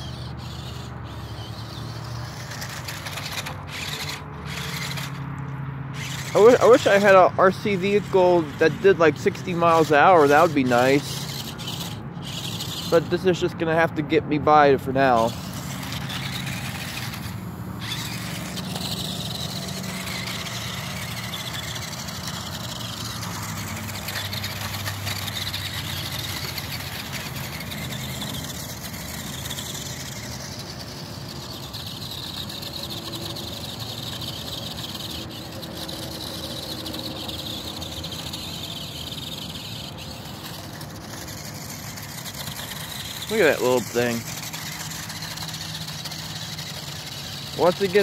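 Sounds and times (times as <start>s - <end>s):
toy electric motor and gears: 0.0s - 48.0s.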